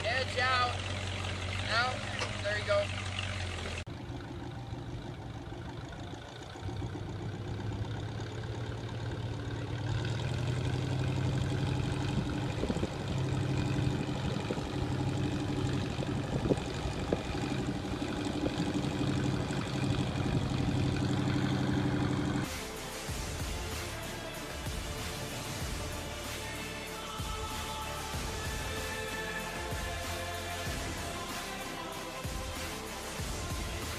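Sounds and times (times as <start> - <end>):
heavy machine engine running: 0.0 - 33.9.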